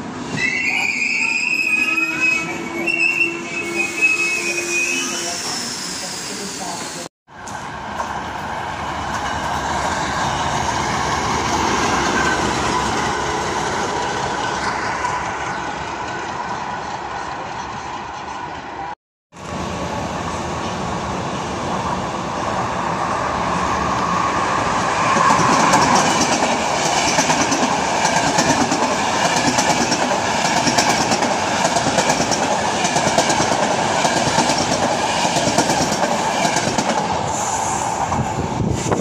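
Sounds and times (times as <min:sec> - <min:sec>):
passenger train passing: 0:00.0 - 0:39.0.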